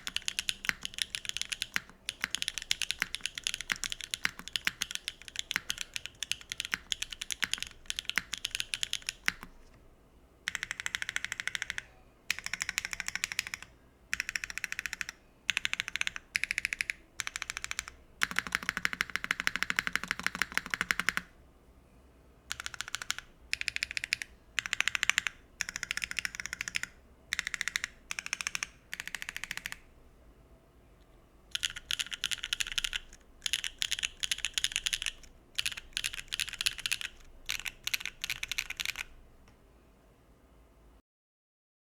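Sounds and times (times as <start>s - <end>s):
mechanical keyboard typing: 0.0s - 9.8s, 10.5s - 21.3s, 22.5s - 29.9s, 31.5s - 39.2s.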